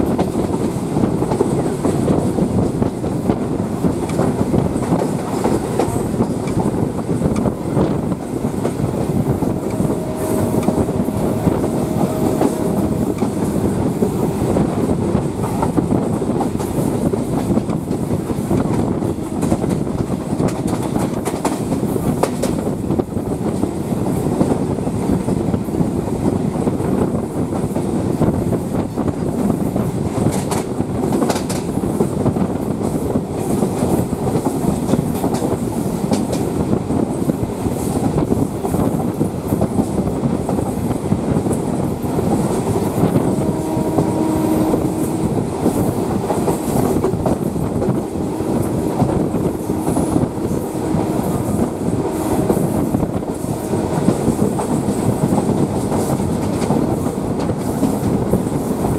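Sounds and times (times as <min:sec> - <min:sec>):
clickety-clack over rail joints: 0:00.0 - 0:58.9
train wheels rumbling on rails: 0:00.0 - 0:58.9.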